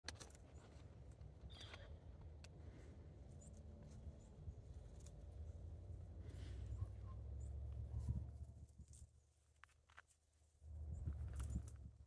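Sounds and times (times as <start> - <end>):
low steady rumble: 0.8 - 9.7, 10.3 - 12.0.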